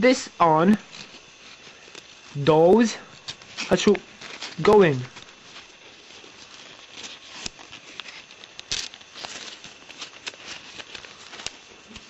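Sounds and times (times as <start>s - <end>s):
paper rustling and crackling: 0.7s - 12.0s.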